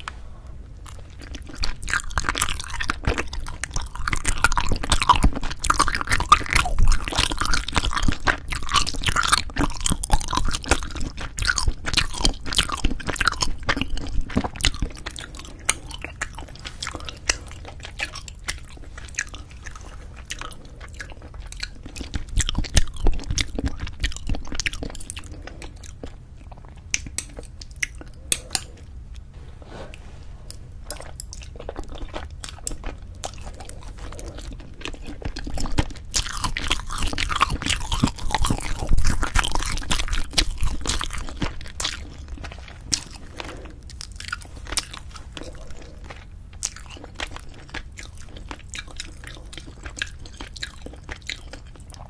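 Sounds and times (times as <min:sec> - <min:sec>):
close chewing with wet mouth noises: 0:00.0 - 0:29.3, 0:30.6 - 0:52.0.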